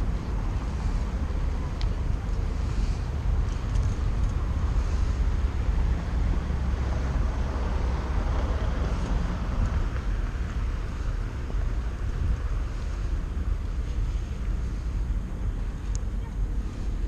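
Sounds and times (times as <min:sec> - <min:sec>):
city road traffic: 0:00.0 - 0:17.0
wind rumbling on microphone: 0:00.0 - 0:17.0.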